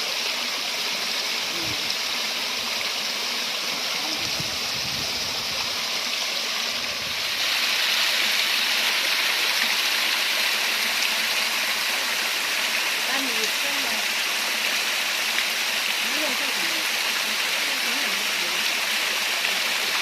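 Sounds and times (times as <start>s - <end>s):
water splashing over rocks: 0.0s - 20.0s.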